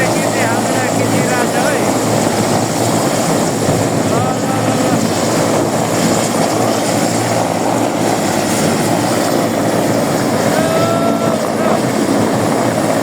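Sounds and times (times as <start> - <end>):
aircraft engine roaring: 0.0 - 13.0.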